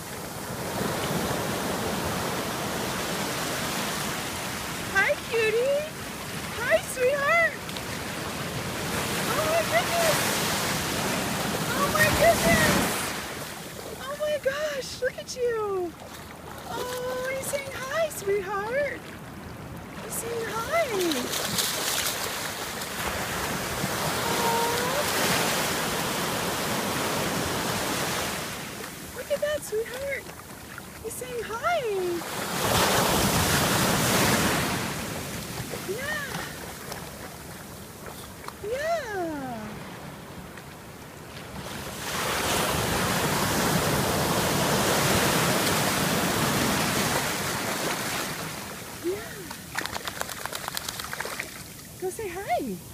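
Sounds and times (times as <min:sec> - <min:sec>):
ocean surf breaking: 0:00.0 - 0:30.3, 0:31.0 - 0:37.4, 0:38.6 - 0:49.5.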